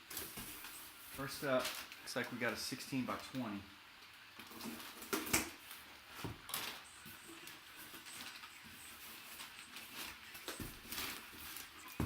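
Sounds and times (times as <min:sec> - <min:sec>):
packing paper rustling: 0:00.0 - 0:02.4, 0:04.4 - 0:12.0.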